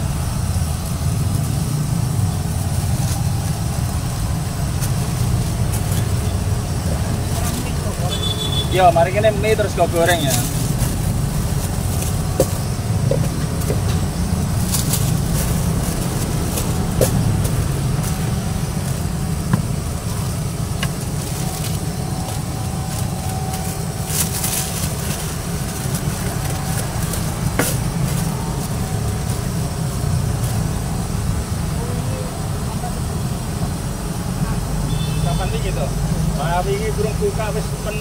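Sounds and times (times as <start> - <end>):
plastic rustling: 0.0 - 31.7
gas burner low rumble: 0.0 - 38.0.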